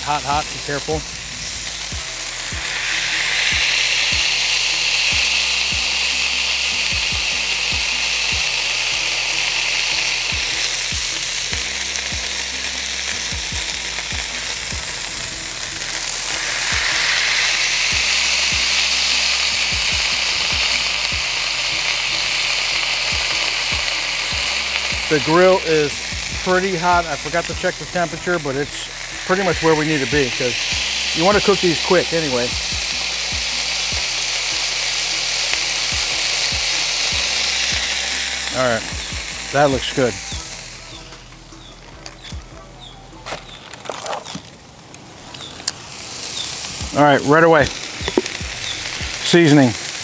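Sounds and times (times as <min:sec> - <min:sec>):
burger patties sizzling on griddle: 0:00.0 - 0:50.0.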